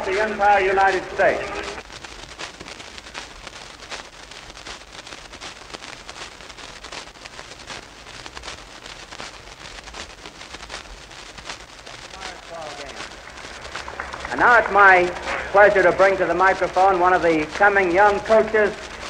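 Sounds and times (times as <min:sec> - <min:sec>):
hiss: 0:00.0 - 0:19.0
low hum: 0:00.0 - 0:19.0
record surface crackle: 0:00.0 - 0:19.0.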